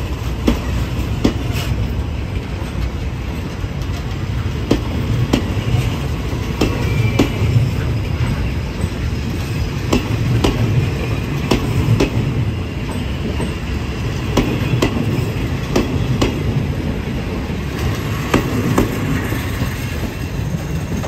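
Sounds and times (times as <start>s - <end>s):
railway cars rumbling: 0.0s - 21.0s
train wheels clacking over rail joint: 0.3s - 16.7s, 17.8s - 21.0s.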